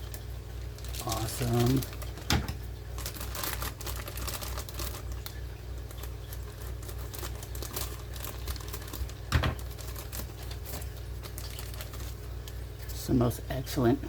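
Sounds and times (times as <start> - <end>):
paper and plastic crinkling: 0.0 - 13.0.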